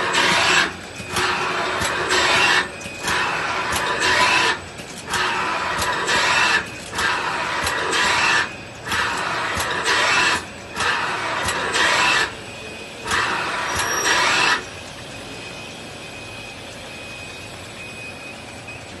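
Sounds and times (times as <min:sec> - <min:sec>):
machine hum with high whine: 0:00.0 - 0:19.0.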